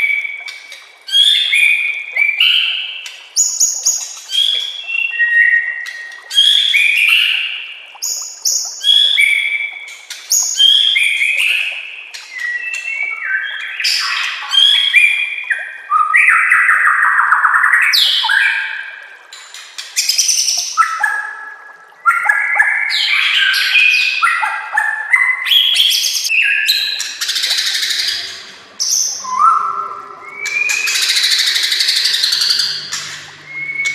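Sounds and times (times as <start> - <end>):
songbird whistles and trills: 0.0 - 18.8, 22.0 - 33.9.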